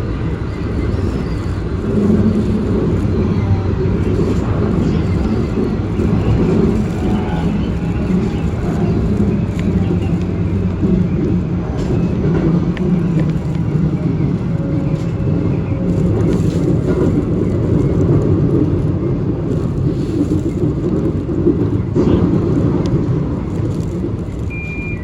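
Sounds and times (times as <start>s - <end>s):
electric train rumbling: 0.0s - 25.0s
wheels clattering on track: 0.0s - 25.0s.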